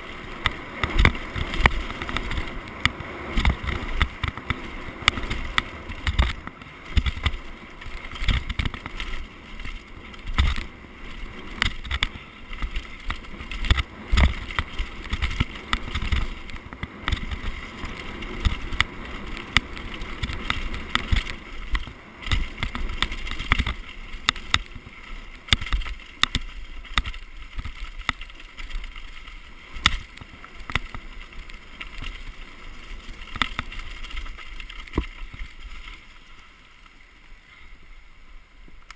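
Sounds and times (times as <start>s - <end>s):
bike rattles and knocks: 0.0s - 36.4s
tyre and wind rush: 0.0s - 38.8s.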